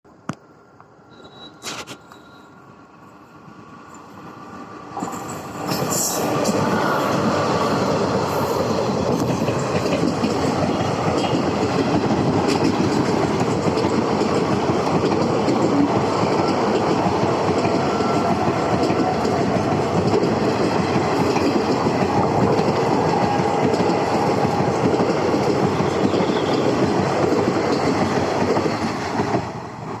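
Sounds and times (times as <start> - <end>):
train wheels clattering over rail joints: 5.0 - 29.6.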